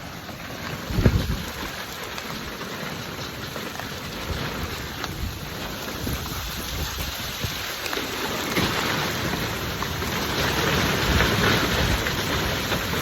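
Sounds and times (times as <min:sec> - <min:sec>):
hail and rain clattering: 0:00.0 - 0:13.0.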